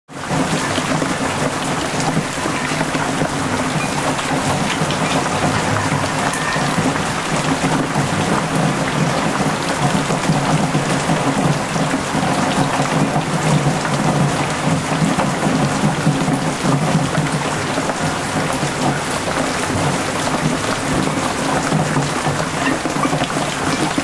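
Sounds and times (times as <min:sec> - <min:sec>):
heavy rain splashing into water: 0:00.1 - 0:24.0.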